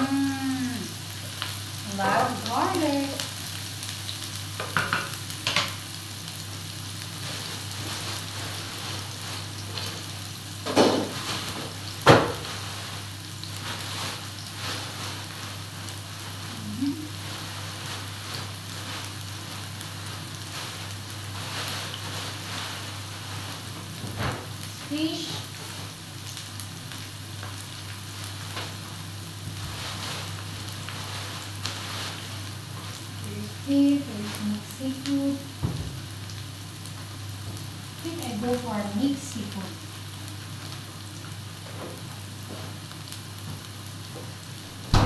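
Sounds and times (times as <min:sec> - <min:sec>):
onion and garlic sizzling in skillet: 0:00.0 - 0:45.0.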